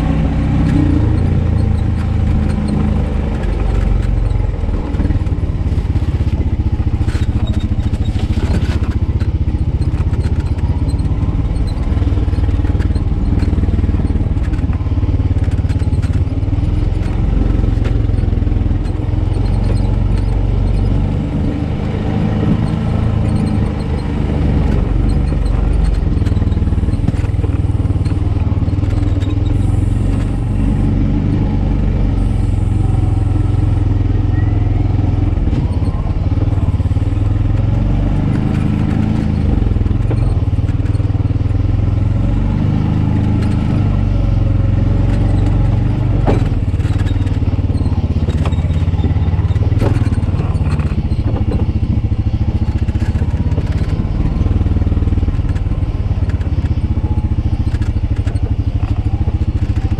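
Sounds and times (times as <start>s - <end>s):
utility vehicle engine running: 0.0s - 59.9s
vehicle knocks and rattles: 0.0s - 59.9s.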